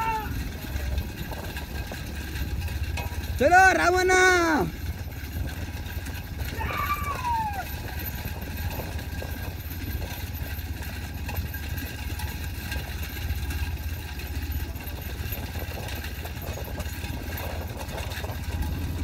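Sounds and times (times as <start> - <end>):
cart wheels on dirt track: 0.0 - 19.0
engine droning: 0.0 - 19.0
hooves clattering on dirt: 0.0 - 19.0.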